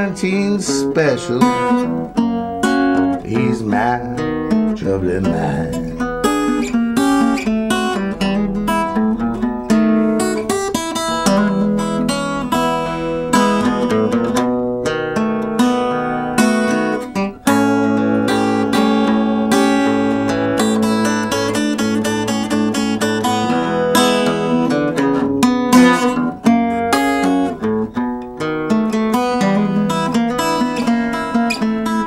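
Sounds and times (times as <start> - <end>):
acoustic blues guitar: 0.0 - 32.0.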